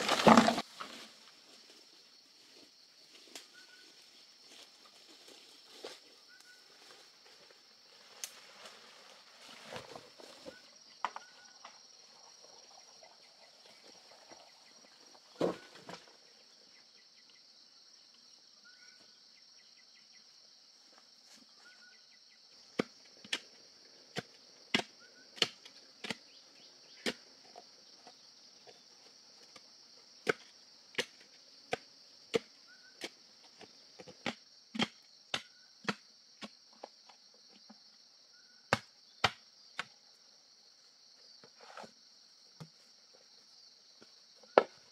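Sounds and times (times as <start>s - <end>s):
forest insects droning: 0.0s - 44.9s.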